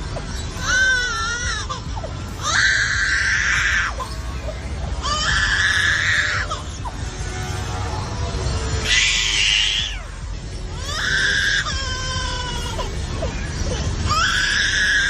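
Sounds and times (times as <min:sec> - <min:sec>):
high wailing calls: 0:00.0 - 0:15.0
low rumble: 0:00.0 - 0:15.0.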